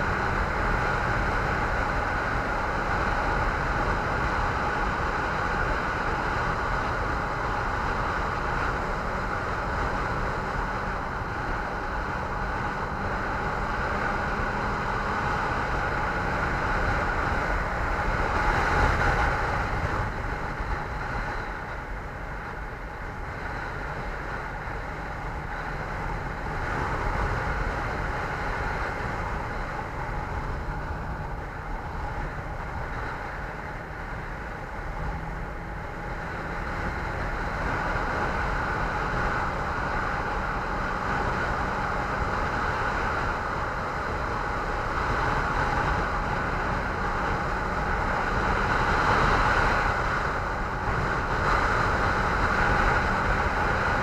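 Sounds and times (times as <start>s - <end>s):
vehicle driving drone: 0.0s - 54.0s
wind rush on microphone: 0.0s - 54.0s.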